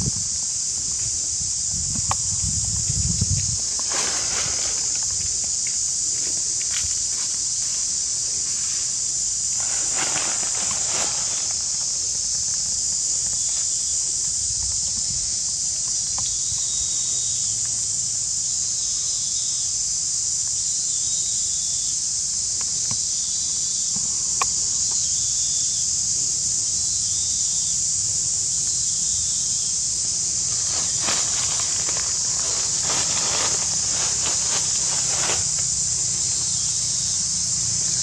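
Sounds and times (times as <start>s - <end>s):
insects droning: 0.0s - 38.0s.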